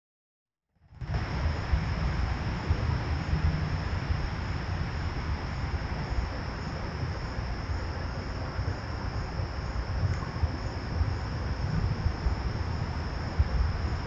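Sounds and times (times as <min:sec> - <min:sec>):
crickets trilling: 0:01.0 - 0:14.0
low uneven rumble: 0:01.0 - 0:14.0.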